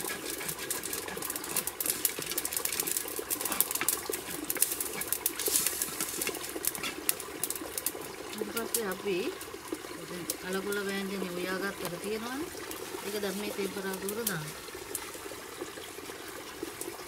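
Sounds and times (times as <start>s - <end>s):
hot oil sizzling and crackling: 0.0s - 17.0s.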